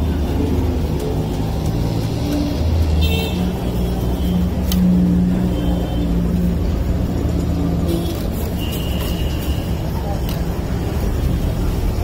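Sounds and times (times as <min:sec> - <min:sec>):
traffic rumble: 0:00.0 - 0:12.0
vehicle engine running nearby: 0:00.0 - 0:12.0.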